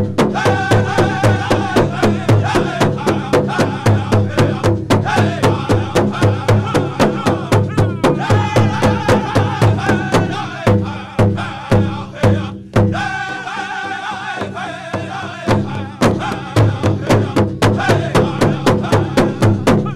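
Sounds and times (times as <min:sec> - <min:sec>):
large drum fast beat: 0:00.0 - 0:13.3, 0:14.4 - 0:19.9
group singing: 0:00.0 - 0:19.9.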